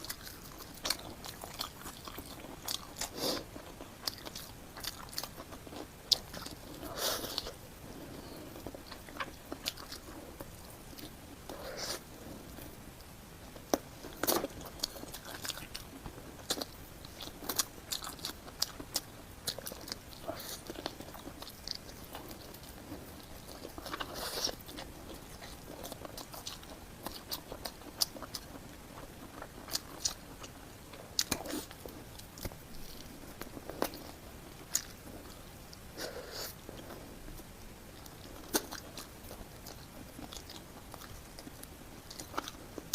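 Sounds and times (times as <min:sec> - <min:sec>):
person chewing food: 0:00.0 - 0:42.9.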